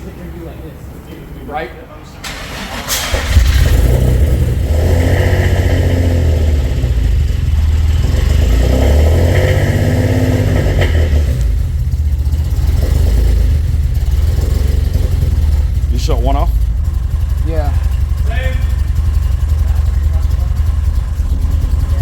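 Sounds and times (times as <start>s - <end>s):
car engine rumbling unevenly: 0.0s - 22.0s.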